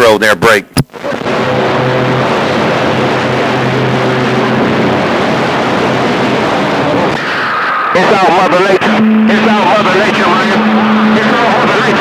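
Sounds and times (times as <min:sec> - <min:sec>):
radio static hiss: 0:00.0 - 0:12.0
faint steady tones: 0:00.9 - 0:12.0.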